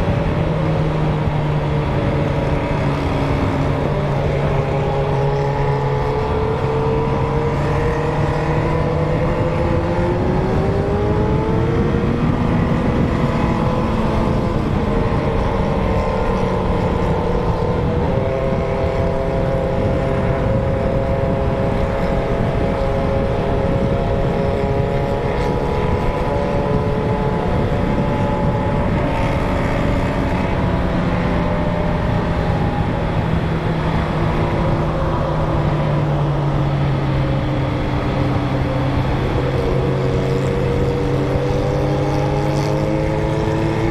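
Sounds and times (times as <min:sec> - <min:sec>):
motorcycle engines running: 0:00.0 - 0:43.9.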